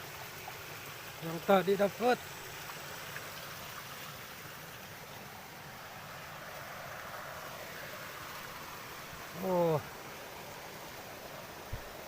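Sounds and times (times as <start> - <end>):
water flowing in a ditch: 0.0 - 12.0.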